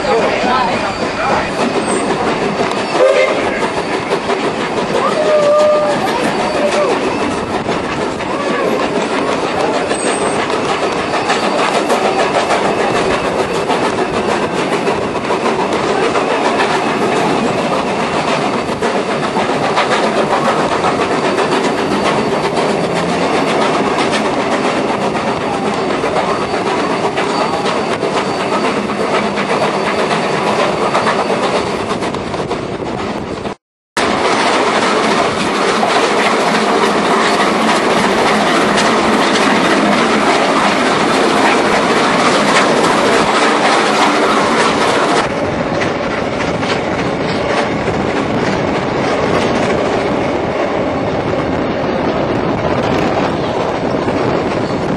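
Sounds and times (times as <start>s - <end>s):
train wheels on rails: 0.0s - 54.9s.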